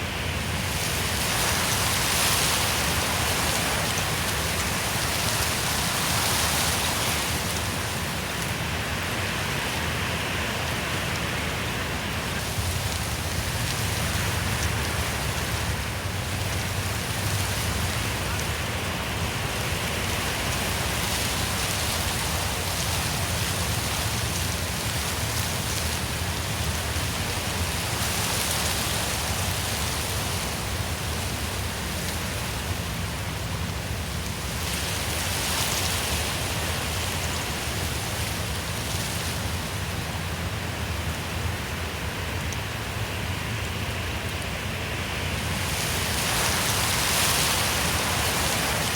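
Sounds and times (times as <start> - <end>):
wind blowing through trees: 0.0 - 48.9.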